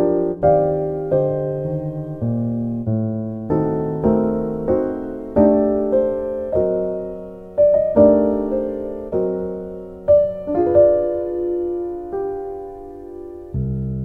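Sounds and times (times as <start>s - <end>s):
slow electric piano chords: 0.0s - 14.0s.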